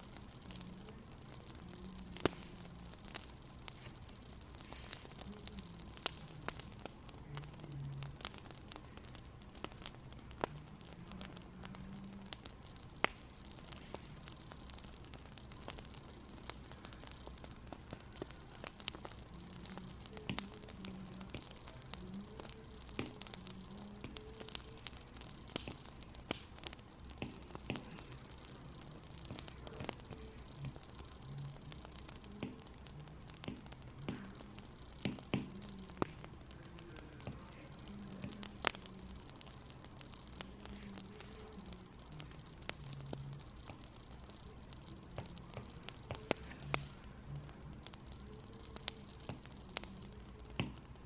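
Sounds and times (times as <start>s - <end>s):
soft fire hiss: 0.0s - 51.0s
wood fire crackling: 0.0s - 51.0s.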